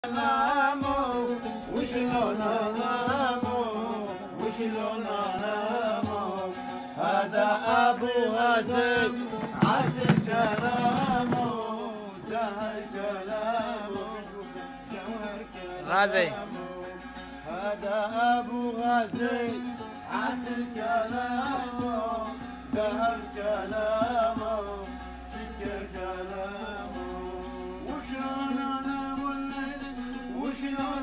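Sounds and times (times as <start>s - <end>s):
long-necked lute playing: 0.0s - 31.0s
man singing folk song: 0.0s - 31.0s.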